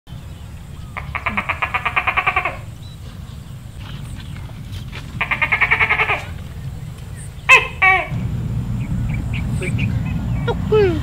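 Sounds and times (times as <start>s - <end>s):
steady low rumble: 0.1s - 11.0s
trembling animal calls: 0.9s - 11.0s.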